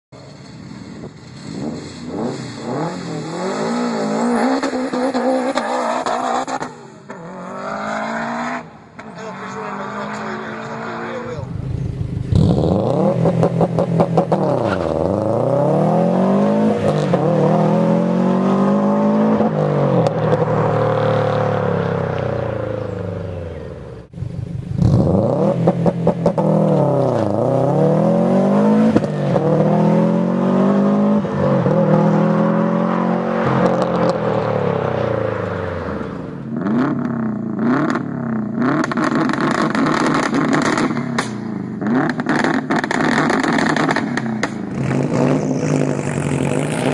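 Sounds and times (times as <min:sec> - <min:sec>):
car exhaust revving: 0:00.6 - 0:46.9.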